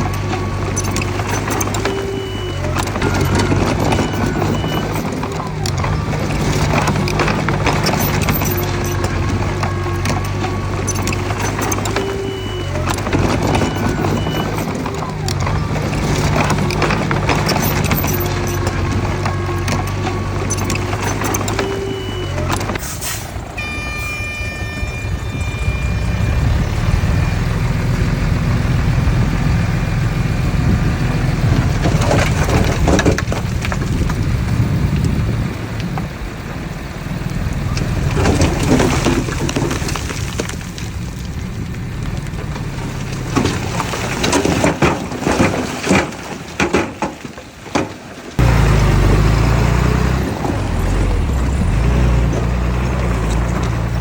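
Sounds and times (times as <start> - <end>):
diesel machinery engine rumble: 0.0 - 54.0
soil and stones crunching: 0.0 - 54.0.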